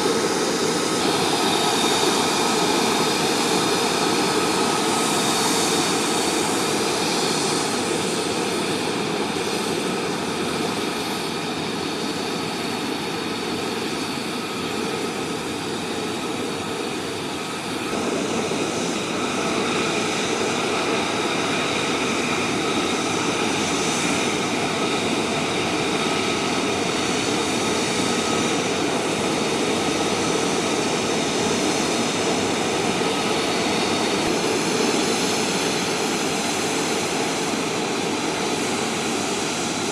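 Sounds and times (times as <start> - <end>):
jet engine running with high whine: 0.0 - 39.9.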